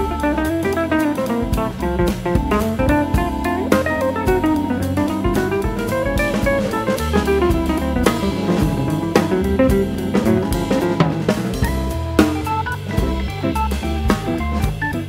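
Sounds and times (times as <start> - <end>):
band music with drum kit: 0.0 - 15.0.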